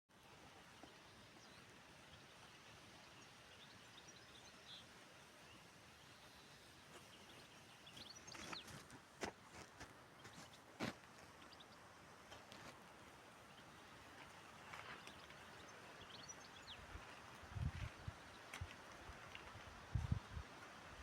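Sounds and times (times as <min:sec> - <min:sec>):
steady outdoor hiss: 0:00.1 - 0:21.0.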